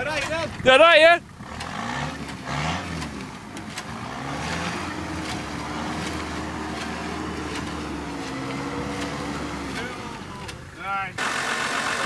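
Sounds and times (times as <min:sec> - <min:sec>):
pickup engine straining: 0:00.0 - 0:12.0.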